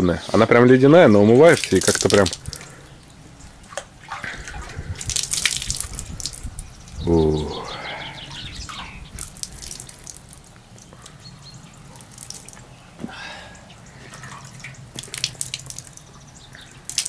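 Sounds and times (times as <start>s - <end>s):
water splashing and dripping: 1.0s - 17.0s.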